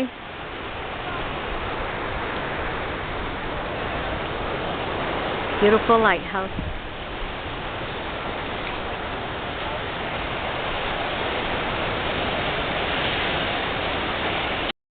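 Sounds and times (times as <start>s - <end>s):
ocean surf on shore: 0.0s - 14.7s
wind: 0.0s - 14.7s.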